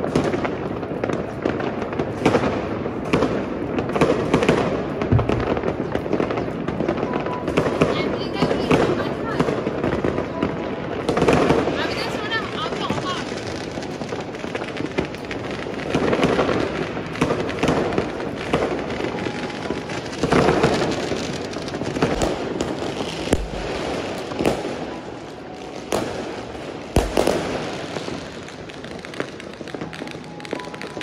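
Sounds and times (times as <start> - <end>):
fireworks crackling: 0.0 - 31.0
loud firecracker bangs: 0.0 - 31.0.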